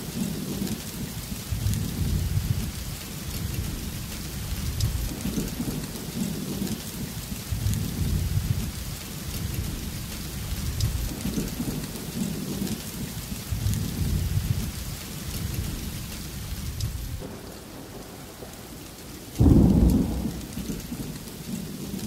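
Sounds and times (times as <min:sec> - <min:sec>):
rain on wooden boardwalk: 0:00.0 - 0:22.0.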